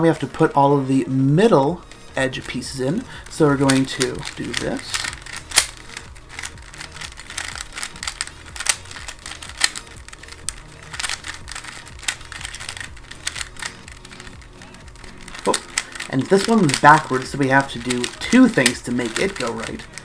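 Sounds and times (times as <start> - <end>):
rubik's cube twisting clicks: 2.3 - 20.0.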